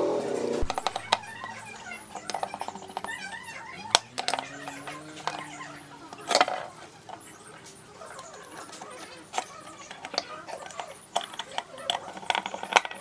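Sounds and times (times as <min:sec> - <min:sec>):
sharp clicks and knocks: 0:00.6 - 0:13.0.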